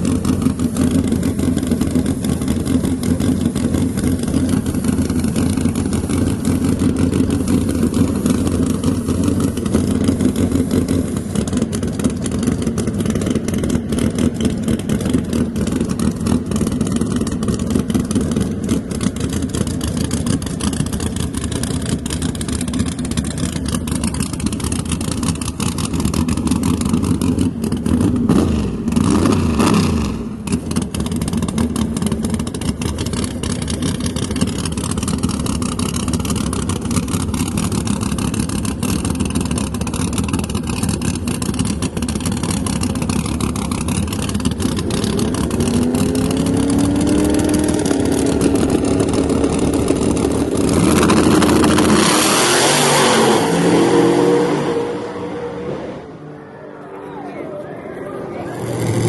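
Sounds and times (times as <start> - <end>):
drag car engine rumbling: 0.0 - 59.0.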